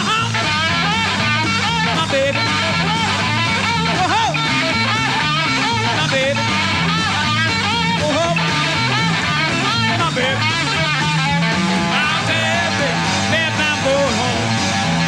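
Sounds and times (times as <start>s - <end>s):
guitar bending notes: 0.0s - 15.0s
rock music: 0.0s - 15.0s
steady bass: 0.0s - 15.0s.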